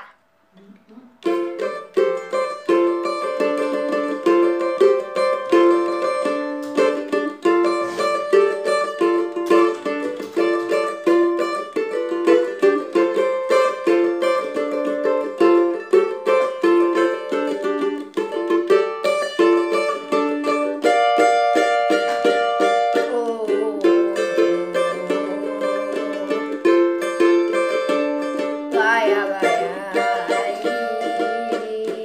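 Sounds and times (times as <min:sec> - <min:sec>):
small guitar strummed: 0:01.2 - 0:32.0.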